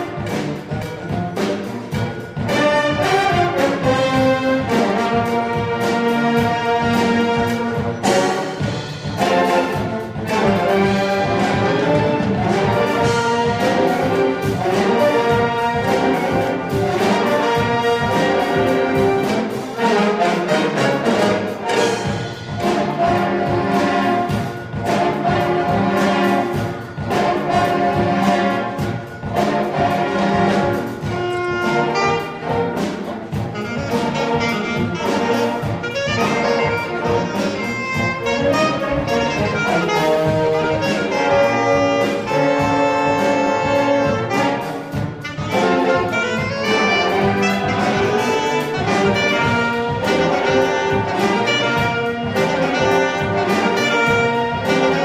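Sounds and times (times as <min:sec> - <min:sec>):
jazz horn ensemble playing: 0:00.0 - 0:55.0.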